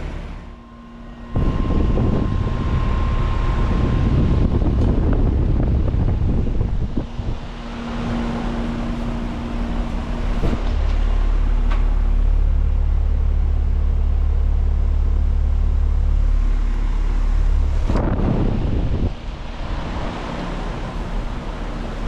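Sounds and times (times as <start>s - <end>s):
deep low rumble: 0.0s - 22.0s
heat pump humming: 0.0s - 22.0s.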